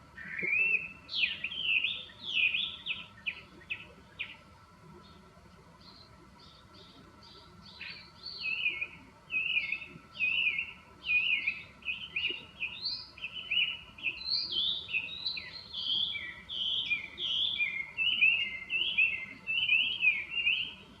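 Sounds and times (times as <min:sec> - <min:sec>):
bird singing varied phrases: 0:00.1 - 0:21.0.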